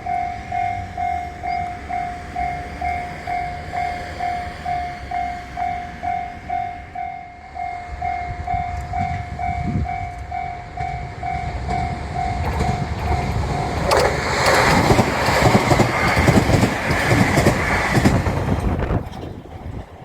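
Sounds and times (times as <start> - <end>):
level crossing warning bell dinging: 0.0 - 16.6
train wheel and rail noise: 0.0 - 20.0.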